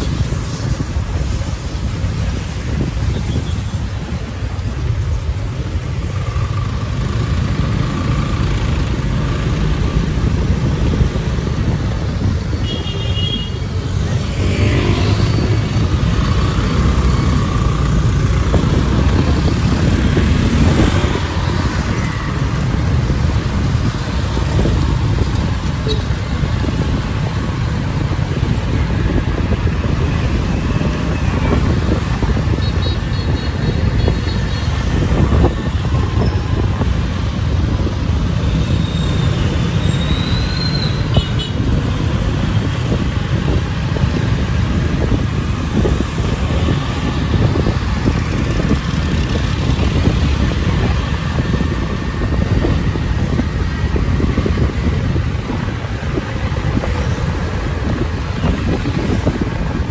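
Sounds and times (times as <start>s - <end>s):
motor vehicles passing: 0.0s - 59.9s.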